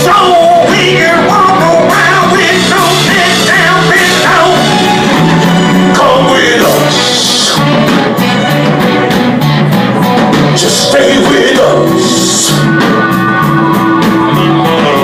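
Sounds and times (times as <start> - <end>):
person singing: 0.0 - 8.2, 10.5 - 15.0
repeating bass line: 0.0 - 15.0
rock and roll band music: 0.0 - 15.0.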